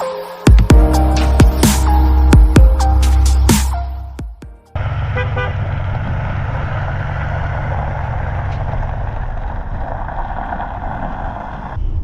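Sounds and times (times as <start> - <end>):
vehicle engine and road rumble: 0.7 - 12.0.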